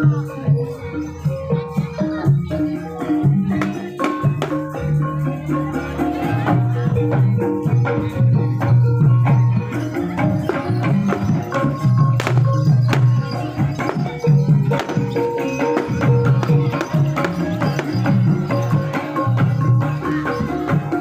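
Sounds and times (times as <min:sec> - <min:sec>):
percussion ensemble of drums and mallets: 0:00.0 - 0:21.0.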